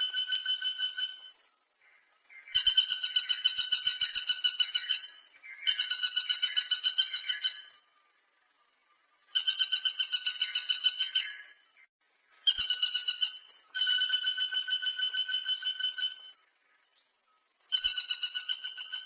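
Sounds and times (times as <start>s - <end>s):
woodpecker rattling call: 0.0s - 7.8s, 9.3s - 11.8s, 12.4s - 17.0s, 17.7s - 19.0s.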